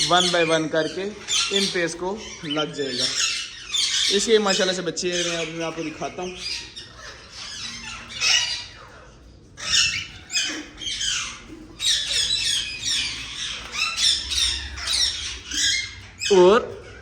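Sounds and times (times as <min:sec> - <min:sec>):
parakeets squawking: 0:00.0 - 0:17.0.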